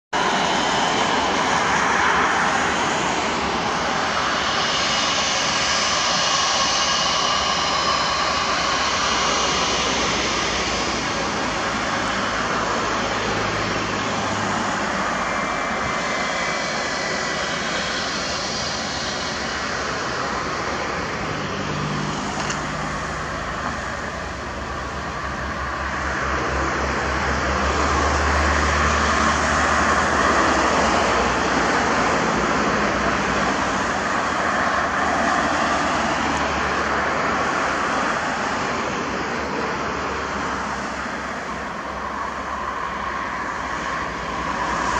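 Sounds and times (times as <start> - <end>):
jet engines whine and rumble: 0.1 - 44.9.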